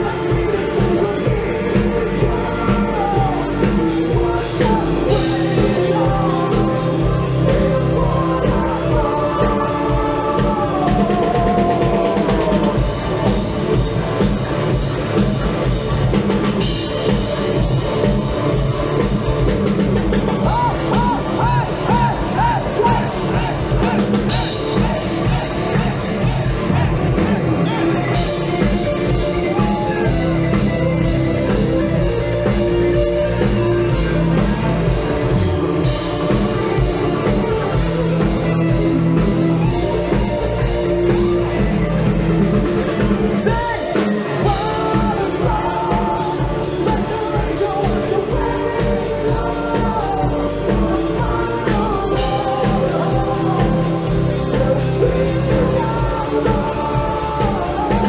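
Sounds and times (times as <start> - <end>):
bass guitar: 0.0 - 58.0
distorted electric guitar: 0.0 - 58.0
drum kit: 0.0 - 58.0
man singing lead vocals: 0.0 - 58.0.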